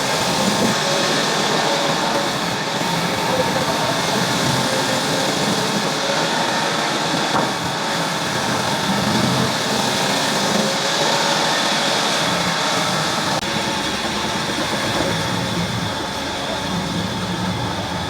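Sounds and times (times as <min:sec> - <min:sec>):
sawmill machinery running: 0:00.0 - 0:18.0.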